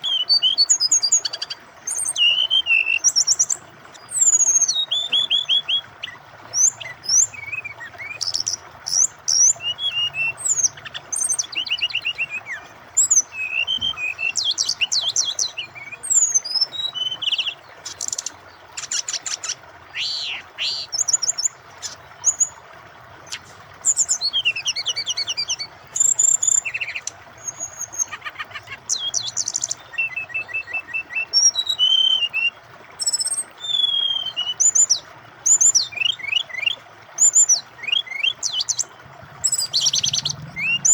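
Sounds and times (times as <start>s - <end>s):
bird singing whistles and trills: 0.0s - 22.6s, 23.2s - 40.9s
flowing water hiss: 0.0s - 40.9s.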